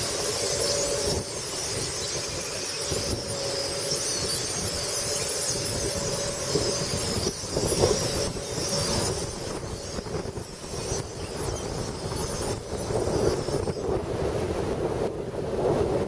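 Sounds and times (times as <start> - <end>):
flock of blackbirds chirping: 0.0 - 14.0
wind rumble on microphone: 0.0 - 16.0.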